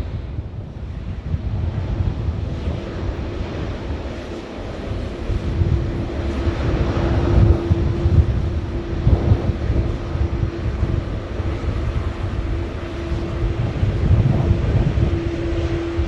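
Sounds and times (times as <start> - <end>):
jet airliner engines rumbling: 0.0 - 16.0
wind buffeting microphone: 0.0 - 16.0.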